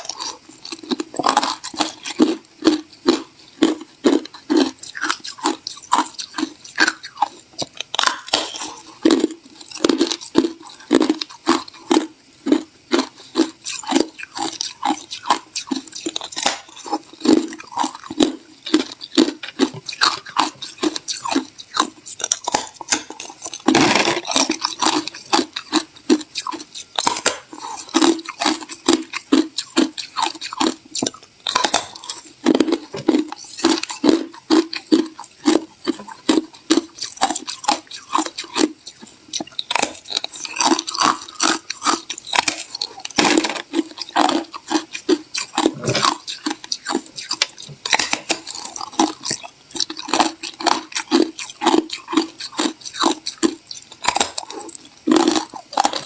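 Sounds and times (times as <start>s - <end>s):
person chewing ice: 0.0s - 56.0s.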